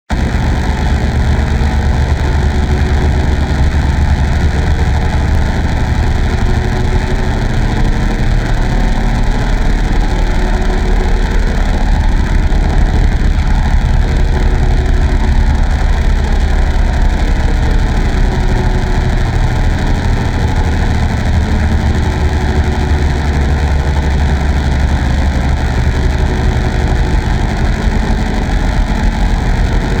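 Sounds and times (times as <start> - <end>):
loud engine-like rumble: 0.1 - 30.0.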